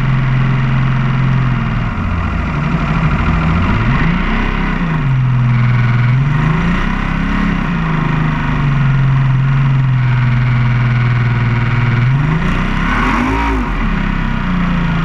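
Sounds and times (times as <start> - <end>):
powerboat engine running: 0.0 - 12.9.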